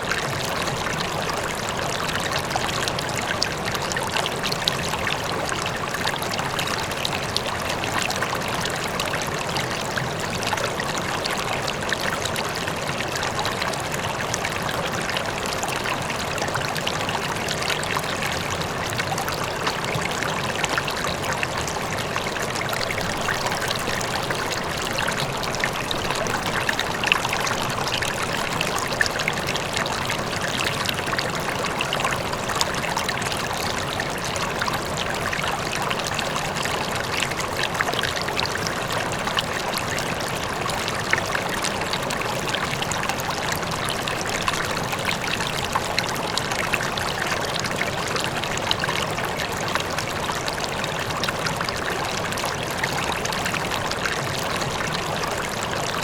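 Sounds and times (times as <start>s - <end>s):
distant waterfall: 0.0s - 56.0s
river water flowing over rocks: 0.0s - 56.0s
small splashes and trickles: 0.0s - 56.0s.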